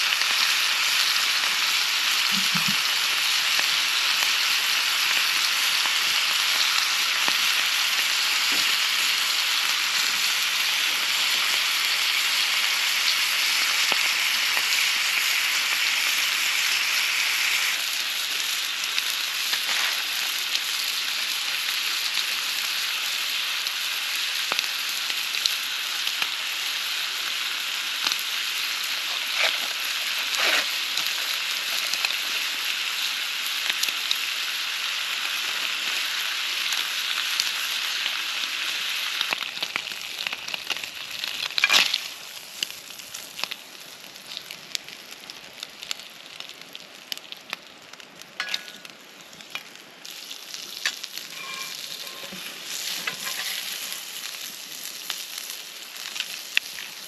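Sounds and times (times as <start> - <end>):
campfire crackling: 0.0 - 57.0
food sizzling in a pan: 0.0 - 57.0.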